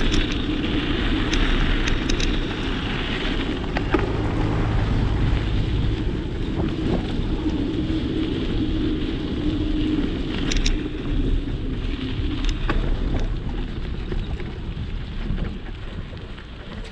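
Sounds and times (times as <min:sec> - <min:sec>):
bicycle rattling over bumps: 0:00.0 - 0:16.9
bicycle tyres rolling on gravel: 0:00.0 - 0:16.9
wind on microphone: 0:00.0 - 0:16.9.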